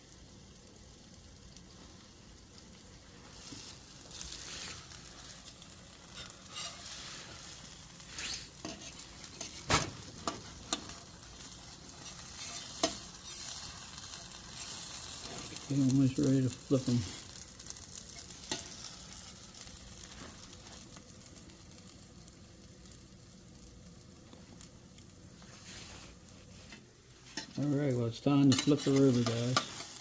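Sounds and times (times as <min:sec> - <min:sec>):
pancakes sizzling in a pan: 0:00.0 - 0:30.0.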